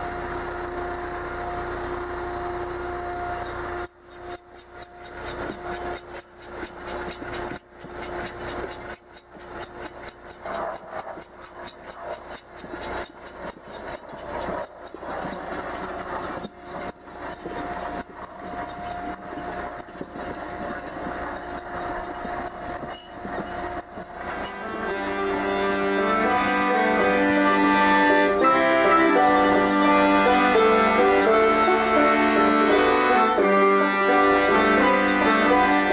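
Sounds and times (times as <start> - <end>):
machine engine humming: 0.0 - 35.9
irregular knocks and clatter: 3.4 - 35.9.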